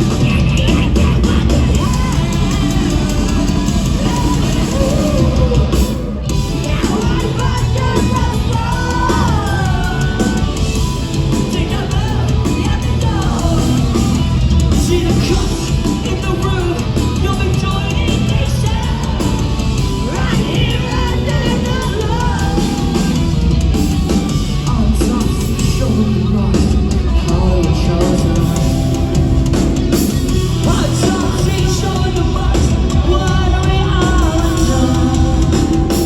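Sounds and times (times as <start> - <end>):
live rock band playing: 0.0 - 36.0
sung and shouted vocals: 0.0 - 36.0.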